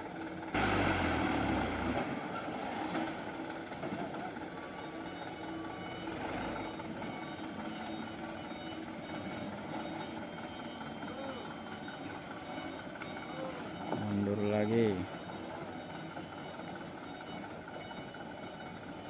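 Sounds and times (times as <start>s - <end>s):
diesel truck engine straining: 0.0s - 19.0s.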